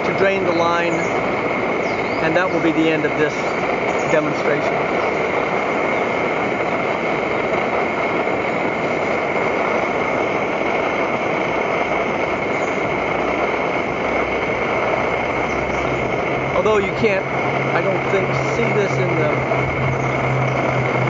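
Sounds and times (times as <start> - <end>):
stove burner roaring: 0.0 - 21.0.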